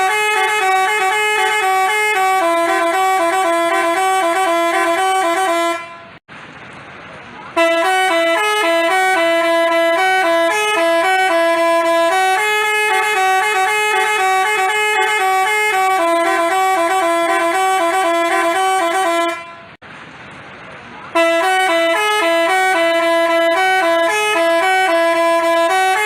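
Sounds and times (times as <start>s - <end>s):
multi-tone horn melody: 0.0s - 6.2s, 7.6s - 19.8s, 21.1s - 26.0s.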